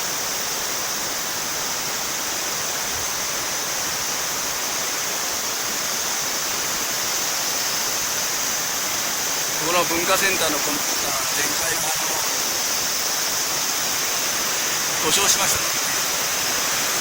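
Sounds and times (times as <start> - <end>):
river rushing in flood: 0.0 - 17.0.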